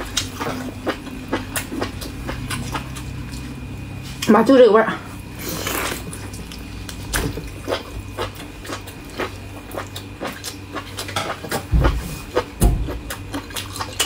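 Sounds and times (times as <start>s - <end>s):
wet chewing and slurping: 0.0s - 4.3s, 5.1s - 14.0s.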